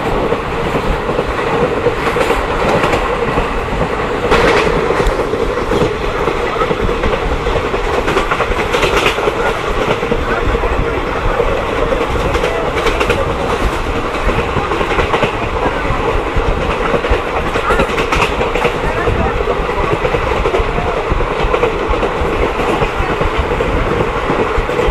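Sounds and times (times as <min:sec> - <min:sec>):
passenger train rumbling: 0:00.0 - 0:24.9
wheels clicking over rail joints: 0:00.1 - 0:24.9.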